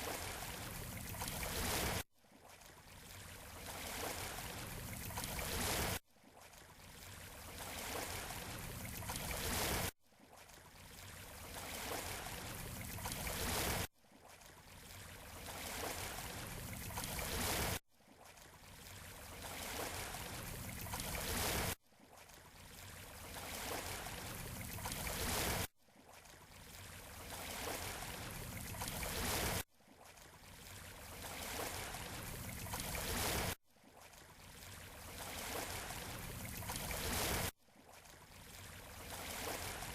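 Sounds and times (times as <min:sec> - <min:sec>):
waves washing on a beach: 0:00.0 - 0:39.9.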